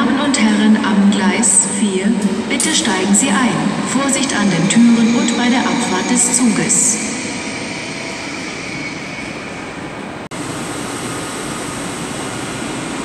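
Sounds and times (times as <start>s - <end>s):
train humming in station hall: 0.0s - 13.0s.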